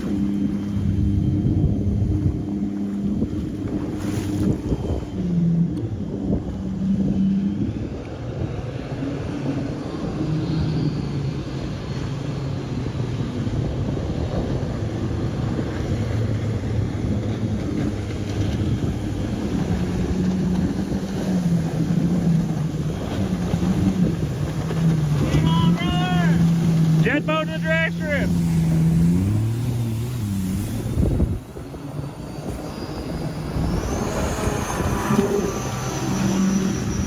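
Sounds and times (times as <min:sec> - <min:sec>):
jet boat engine droning: 0:00.0 - 0:37.0
water noise: 0:00.0 - 0:37.0.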